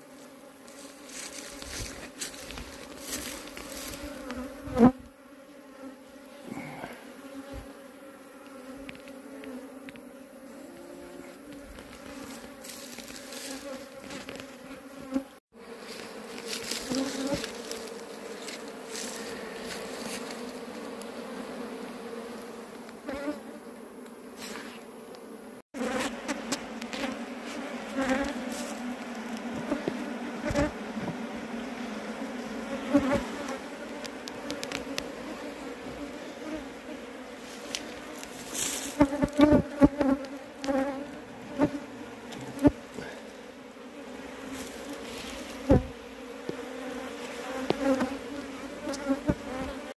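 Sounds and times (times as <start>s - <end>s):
honeybees buzzing: 0.0s - 49.9s.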